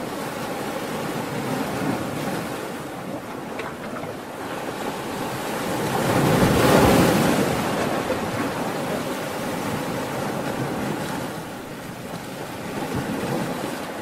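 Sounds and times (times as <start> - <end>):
churning waves and surf: 0.0 - 14.0.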